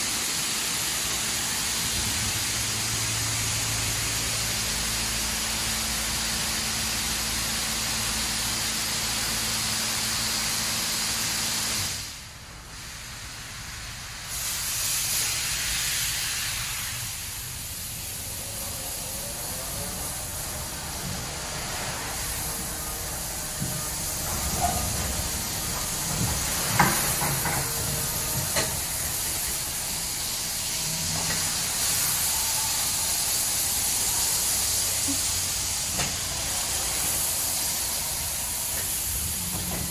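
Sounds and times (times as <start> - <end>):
high-pressure water spray hissing: 0.0 - 39.9.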